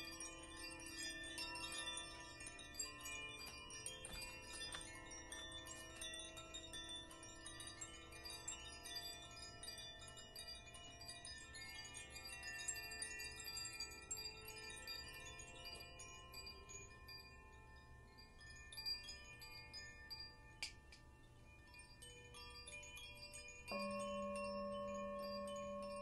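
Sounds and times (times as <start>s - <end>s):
hand chimes tinkling: 0.0s - 26.0s
low steady ringing: 0.0s - 26.0s.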